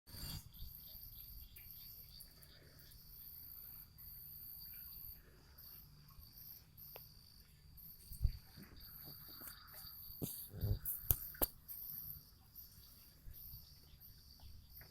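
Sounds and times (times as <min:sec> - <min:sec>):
crickets trilling: 0:00.1 - 0:14.9.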